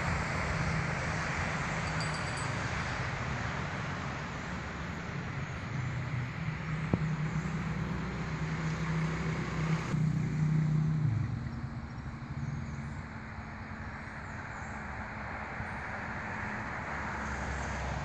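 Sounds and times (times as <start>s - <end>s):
loud vehicle passing by: 0.0s - 18.0s
passing cars: 0.0s - 18.0s.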